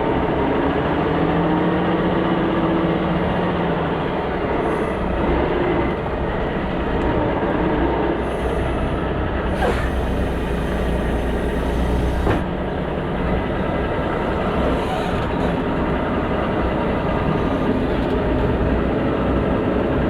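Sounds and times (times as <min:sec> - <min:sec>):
truck rumble and road noise: 0:00.0 - 0:20.0.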